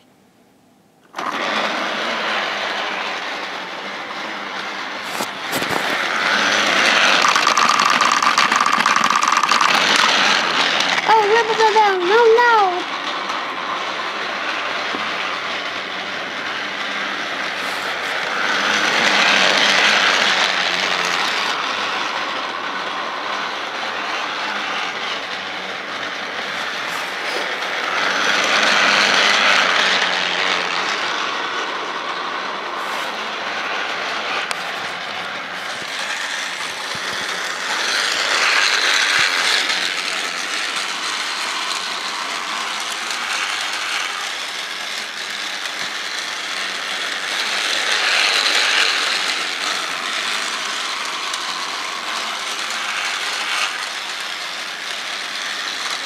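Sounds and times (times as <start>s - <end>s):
toy train whirring and clattering: 1.0s - 56.0s.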